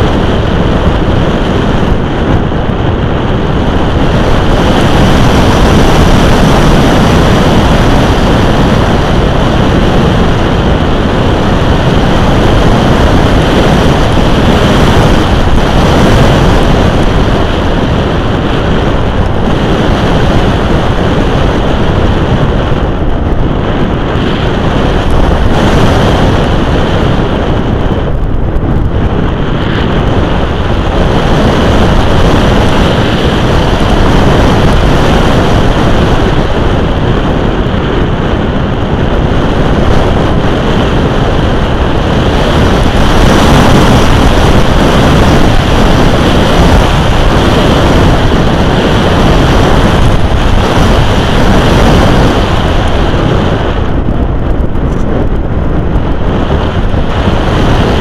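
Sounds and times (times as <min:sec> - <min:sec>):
wind rushing over camera: 0:00.0 - 0:58.0.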